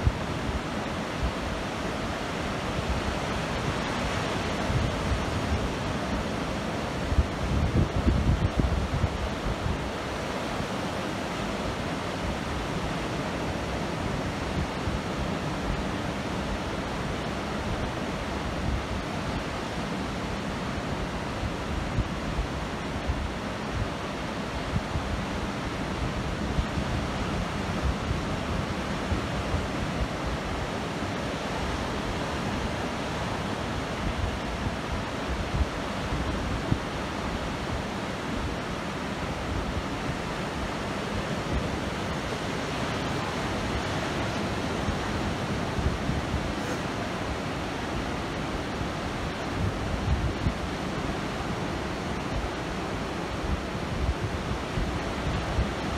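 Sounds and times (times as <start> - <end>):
wind buffeting microphone: 0.0 - 10.2, 21.3 - 55.9
ocean surf breaking: 8.7 - 55.9.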